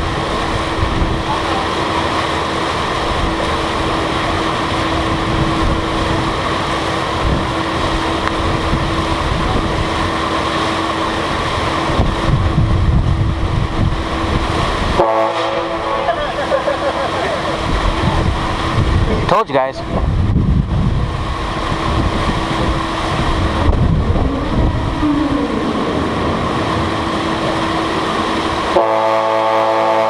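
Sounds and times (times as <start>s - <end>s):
strong wind buffeting microphone: 0.0s - 29.8s
steady hum: 0.0s - 30.0s.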